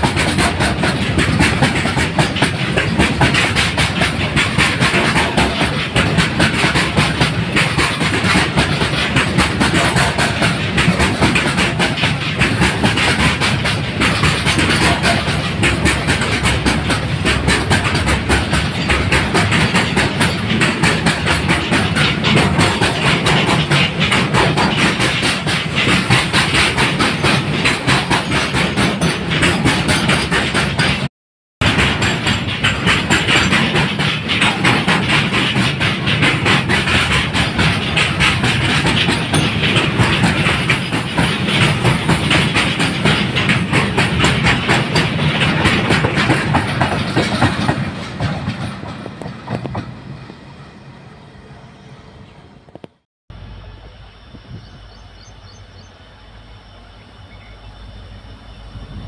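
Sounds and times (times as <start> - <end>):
train wheels clattering over rails: 0.0 - 51.0.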